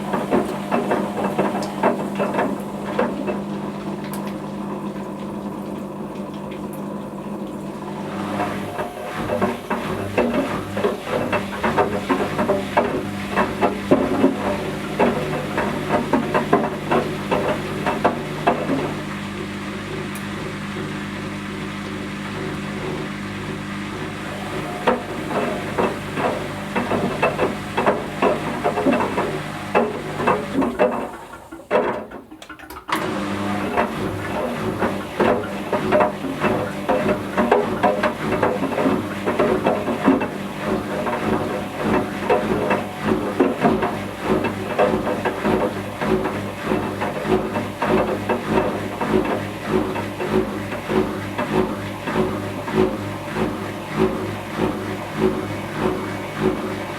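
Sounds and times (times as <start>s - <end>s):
washing machine motor hum: 0.0s - 56.9s
water sloshing in drum: 0.0s - 56.9s.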